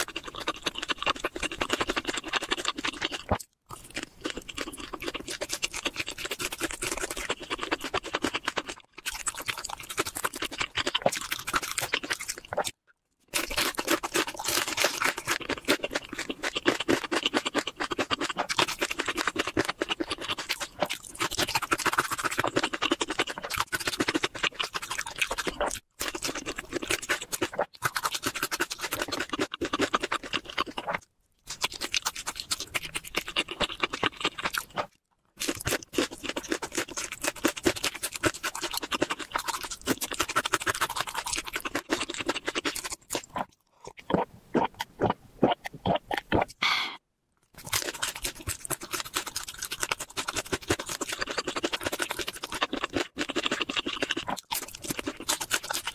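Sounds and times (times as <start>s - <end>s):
chewing crispy fried chicken: 0.0s - 46.6s, 47.5s - 55.9s.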